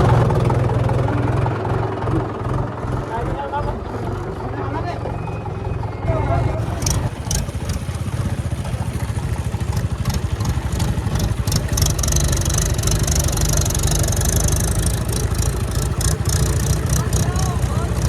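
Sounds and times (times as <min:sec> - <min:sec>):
heavy machinery diesel engine clattering: 0:00.0 - 0:04.8, 0:06.5 - 0:18.0.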